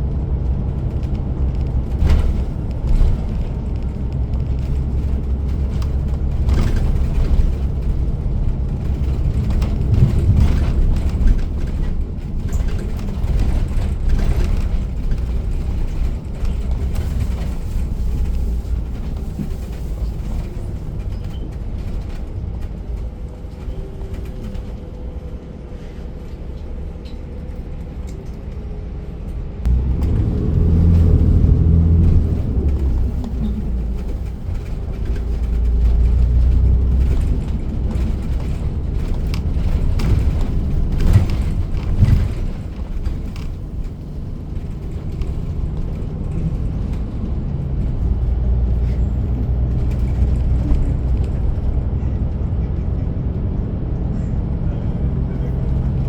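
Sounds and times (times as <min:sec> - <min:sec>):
bus engine: 0:00.0 - 0:56.0
road noise: 0:00.0 - 0:56.0.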